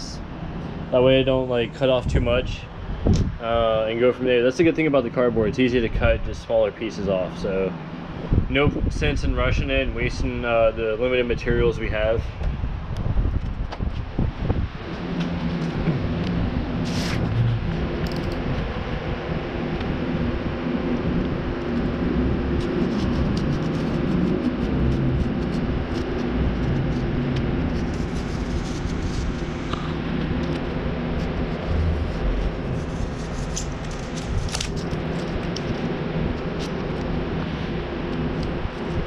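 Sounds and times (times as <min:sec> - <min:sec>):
electric box fan running: 0:00.0 - 0:39.0.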